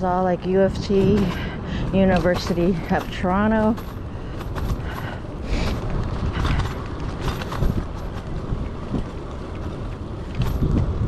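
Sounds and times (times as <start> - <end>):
tyres on road: 0.0 - 11.0
wind against microphone: 0.0 - 11.0
bike clicks and rattles: 0.5 - 11.0.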